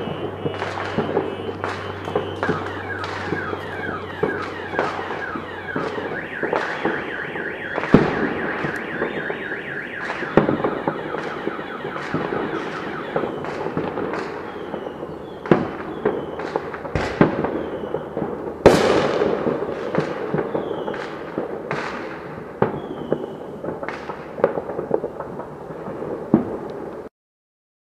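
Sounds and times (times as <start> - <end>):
fireworks bangs: 0.0 - 27.1
fireworks crackling: 0.0 - 27.1
fireworks whistling: 0.0 - 27.1.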